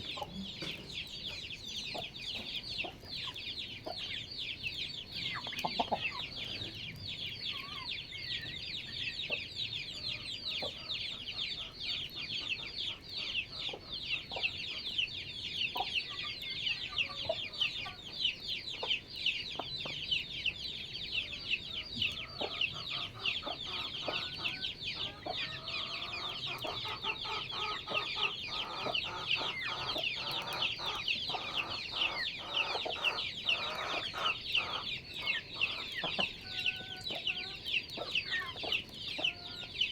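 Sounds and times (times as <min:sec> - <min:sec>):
chickens clucking: 0:00.0 - 0:39.9
chicks peeping chorus: 0:00.0 - 0:39.9.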